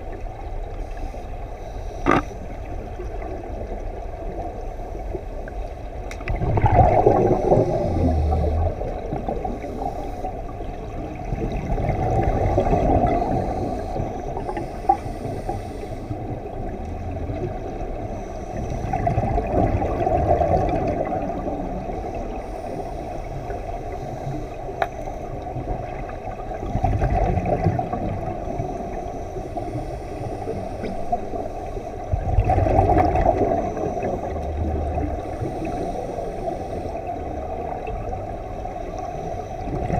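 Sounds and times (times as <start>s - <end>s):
quiet bubbling: 0.0s - 39.9s
exhaled bubbles rushing underwater: 2.0s - 39.9s.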